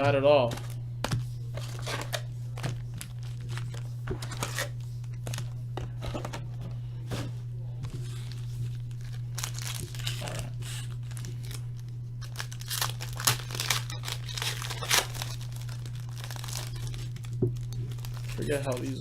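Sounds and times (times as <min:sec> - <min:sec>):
low electrical hum: 0:00.0 - 0:19.0
card packaging tearing and crinkling: 0:00.4 - 0:05.6, 0:07.8 - 0:19.0.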